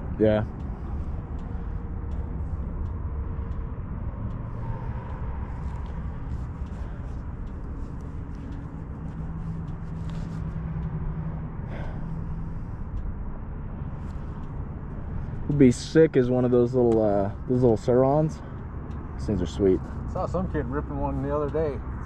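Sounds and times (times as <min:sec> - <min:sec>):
motorcycle engine low rumble: 0:00.0 - 0:22.0.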